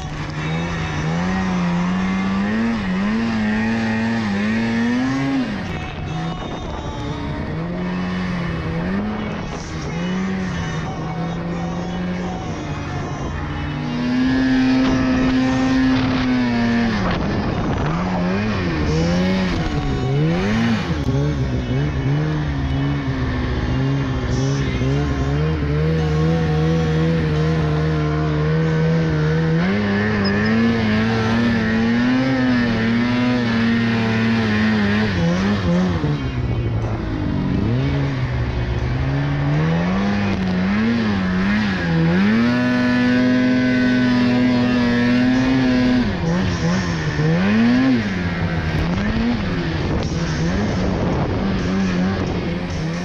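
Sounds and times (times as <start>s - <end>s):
snowmobile engine running hard: 0.0s - 53.0s.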